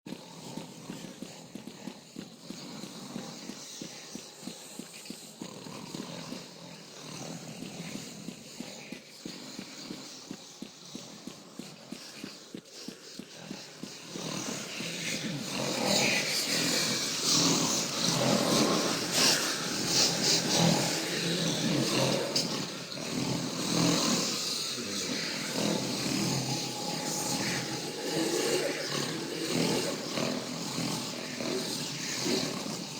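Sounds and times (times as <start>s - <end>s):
horse hooves clip-clopping: 0.1s - 32.9s
men snoring: 0.1s - 32.9s.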